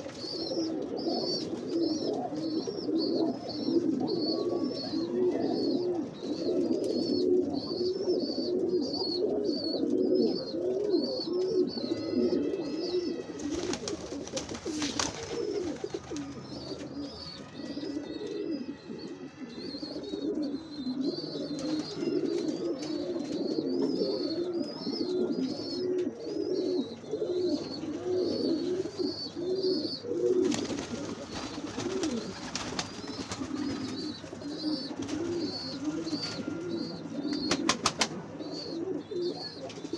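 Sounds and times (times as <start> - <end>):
pigeons cooing: 0.0 - 39.9
small birds chirping: 0.0 - 39.9.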